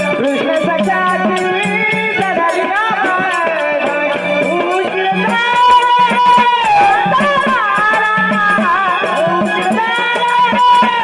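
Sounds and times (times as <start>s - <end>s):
steady percussion beat: 0.0s - 11.0s.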